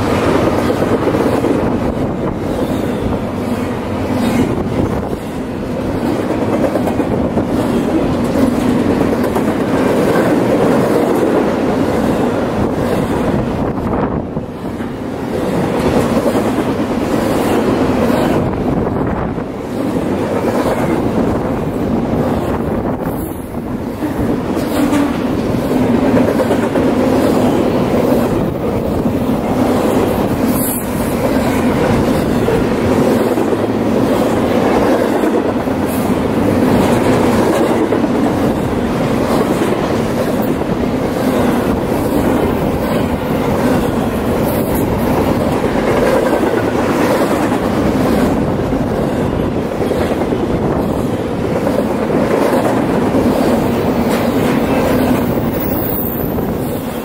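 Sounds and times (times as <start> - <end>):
freight train wheels rolling on rails: 0.0 - 57.0.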